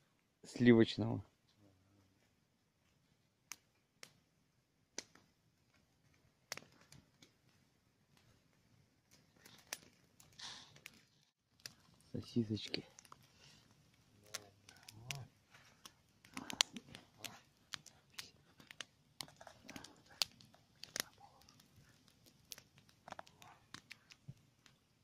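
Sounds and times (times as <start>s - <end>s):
campfire crackling: 0.0s - 25.0s
fire snaps and pops: 2.8s - 25.0s.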